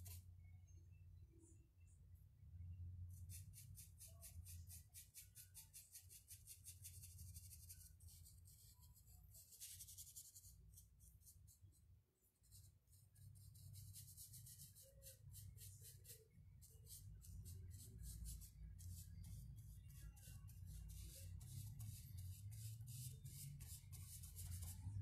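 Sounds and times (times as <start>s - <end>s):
paintbrush scratching on wood: 3.2s - 11.6s, 13.4s - 25.0s.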